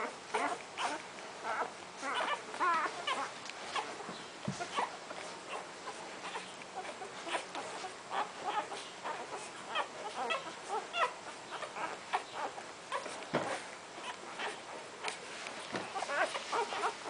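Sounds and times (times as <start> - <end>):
puppies squeaking and grunting: 0.0 - 17.0.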